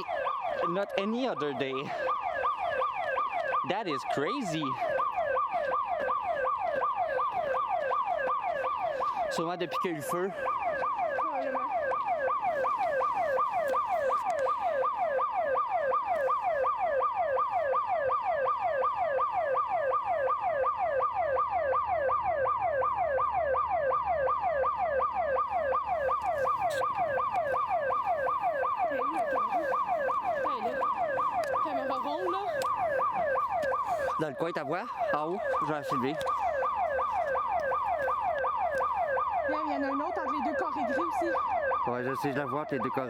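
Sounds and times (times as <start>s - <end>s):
electronic alarm siren yelp: 0.0s - 43.0s.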